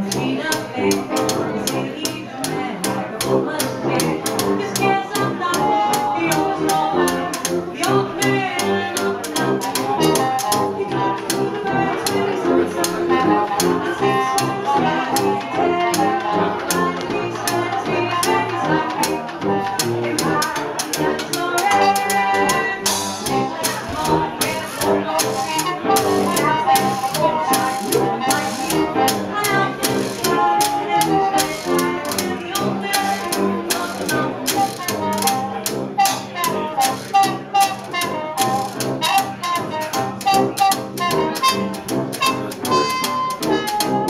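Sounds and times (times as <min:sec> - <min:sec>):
piano: 0:00.0 - 0:44.0
trumpet: 0:00.0 - 0:44.0
tuba bass line: 0:00.0 - 0:44.0
washboard and cymbal beat: 0:00.0 - 0:44.0.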